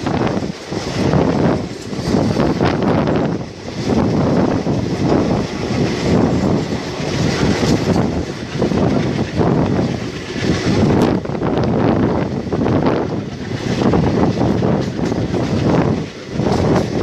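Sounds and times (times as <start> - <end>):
train running on the track: 0.0 - 17.0
wind buffeting a microphone: 0.0 - 17.0.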